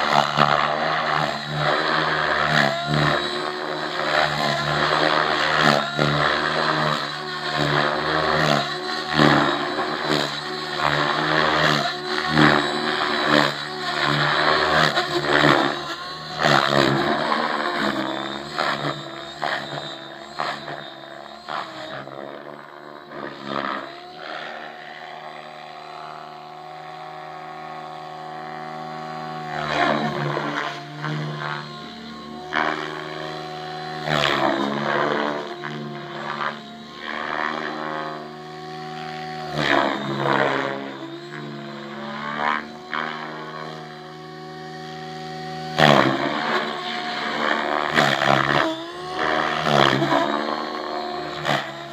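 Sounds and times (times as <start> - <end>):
rc helicopter rotor whine: 0.0 - 51.9.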